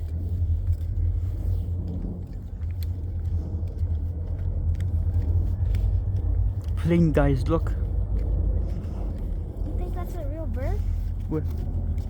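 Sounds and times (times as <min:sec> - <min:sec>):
distant train rumbling: 0:00.0 - 0:12.0.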